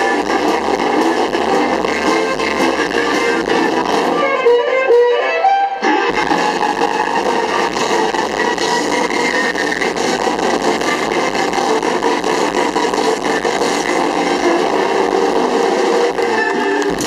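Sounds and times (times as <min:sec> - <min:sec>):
drums: 0:00.0 - 0:17.0
electric guitar: 0:00.0 - 0:17.0
harmonica: 0:00.0 - 0:17.0
violin: 0:00.0 - 0:17.0.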